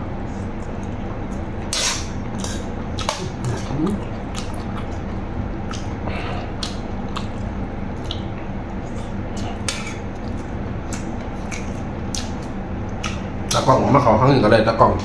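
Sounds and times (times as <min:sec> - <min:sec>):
low hum: 0:00.0 - 0:15.0
wet chewing: 0:00.3 - 0:13.7.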